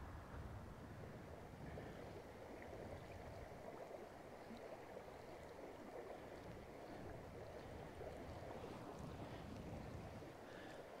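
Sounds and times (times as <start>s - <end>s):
river water flowing: 0.8s - 11.0s.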